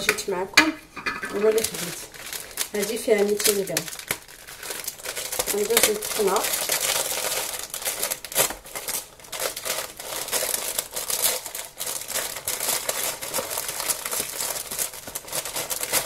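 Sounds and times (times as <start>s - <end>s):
plastic wrapper crinkling: 1.2s - 16.0s.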